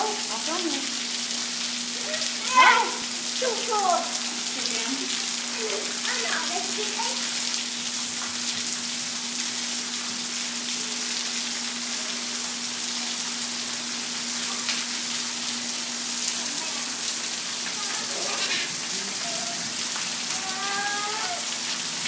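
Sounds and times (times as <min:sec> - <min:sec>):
heavy rain on vehicle and pavement: 0:00.0 - 0:22.0.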